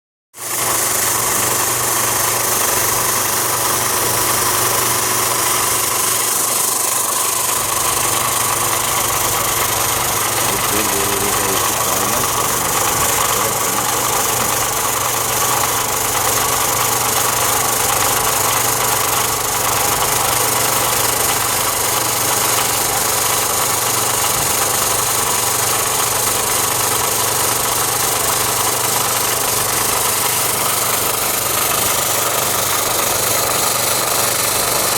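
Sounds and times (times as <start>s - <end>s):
electric sanding machine running: 0.5s - 34.9s.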